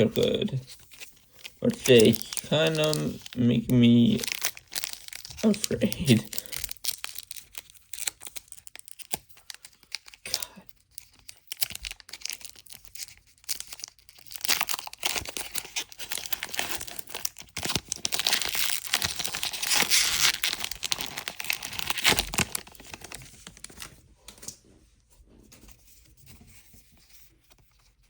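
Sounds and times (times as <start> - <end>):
foil wrapper crinkling and tearing: 0.0 - 24.0.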